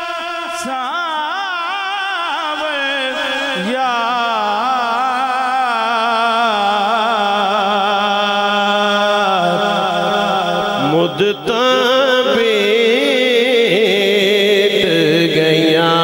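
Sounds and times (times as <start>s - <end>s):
person singing a devotional chant: 0.0s - 16.0s.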